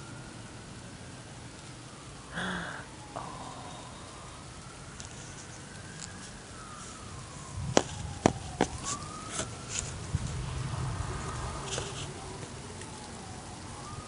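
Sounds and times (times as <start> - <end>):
distant siren wailing: 0.0 - 14.0
rain hissing: 0.0 - 14.0.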